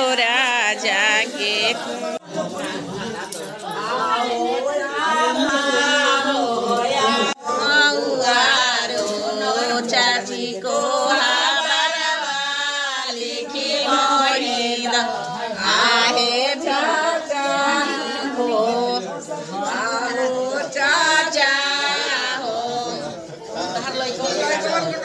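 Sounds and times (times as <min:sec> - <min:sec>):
women singing together: 0:00.0 - 0:02.2, 0:03.6 - 0:25.0.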